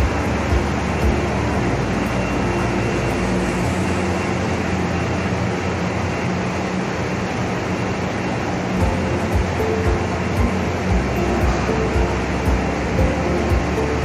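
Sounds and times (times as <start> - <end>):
industrial machinery din: 0.0 - 14.0
low machinery hum: 0.0 - 14.0.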